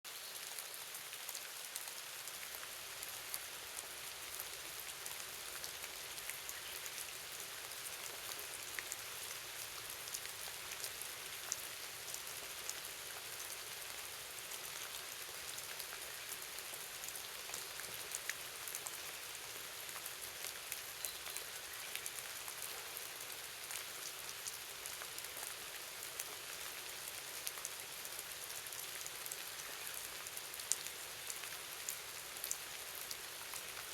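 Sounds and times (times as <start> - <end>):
raindrops ticking on surfaces: 0.1 - 33.9
steady rain falling: 0.1 - 33.9.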